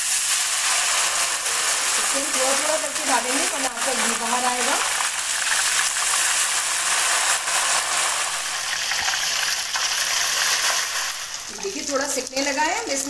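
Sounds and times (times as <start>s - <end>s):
batter frying in hot ghee: 0.0s - 13.0s.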